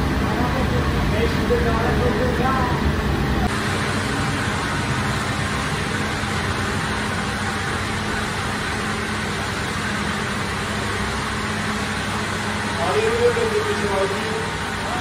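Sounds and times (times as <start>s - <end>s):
machinery low hum: 0.0s - 15.0s
machinery rushing noise: 0.0s - 15.0s.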